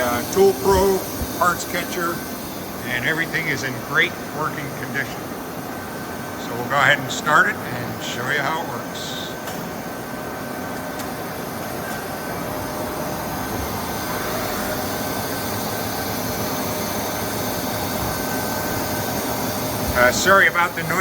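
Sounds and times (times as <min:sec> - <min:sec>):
air compressor running: 0:00.0 - 0:21.0.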